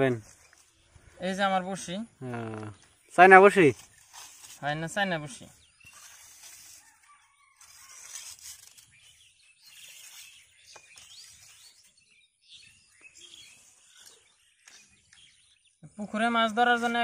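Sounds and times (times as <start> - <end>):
faint birds chirping: 0.0 - 17.0
rural outdoor ambience: 0.0 - 17.0.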